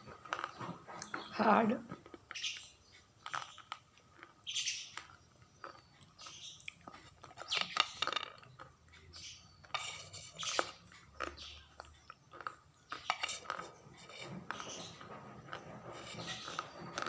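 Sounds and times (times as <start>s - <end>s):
crunchy food being chewed: 0.0s - 1.3s, 1.9s - 17.0s.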